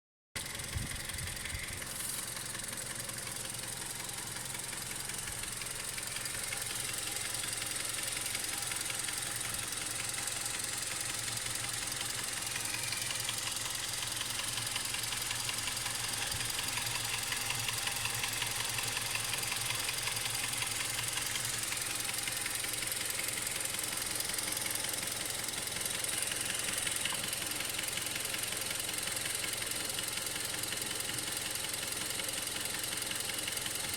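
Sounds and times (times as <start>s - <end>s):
car engine idling: 0.4s - 33.9s
engine knock: 0.4s - 33.9s.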